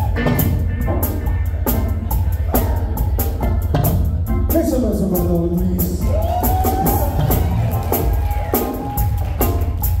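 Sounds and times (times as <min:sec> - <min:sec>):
live reggae band playing: 0:00.0 - 0:10.0.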